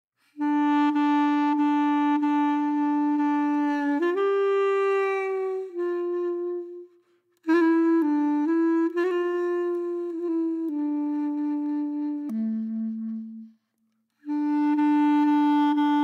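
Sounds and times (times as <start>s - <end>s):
woodwind holding long notes: 0.3s - 16.0s.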